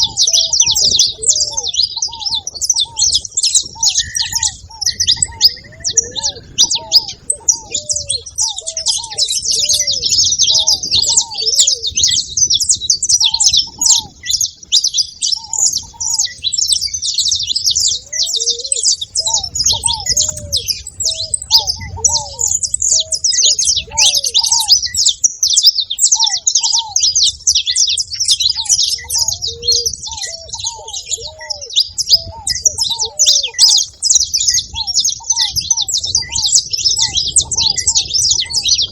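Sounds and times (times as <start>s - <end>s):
doves cooing: 0.0s - 38.9s
finches chirping: 0.0s - 38.9s.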